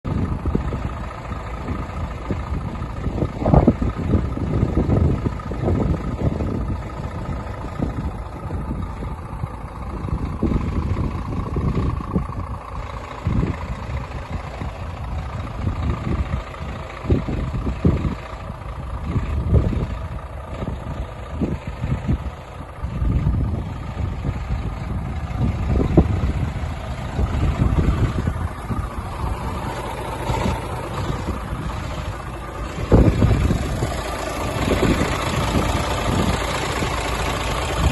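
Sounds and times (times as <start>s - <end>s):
diesel truck engine idling: 0.0s - 37.9s
uneven low rumbles: 0.0s - 37.9s.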